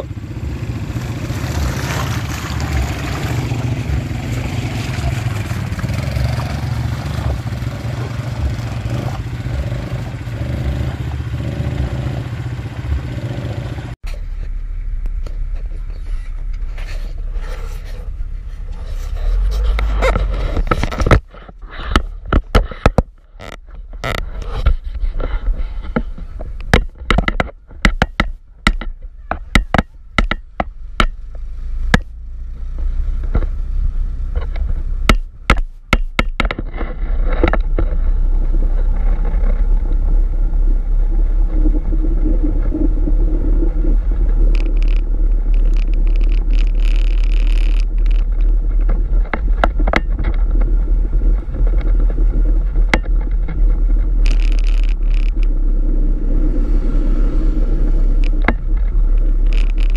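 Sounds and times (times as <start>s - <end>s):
jeep engine rumble: 0.0s - 59.9s
road noise: 0.0s - 59.9s.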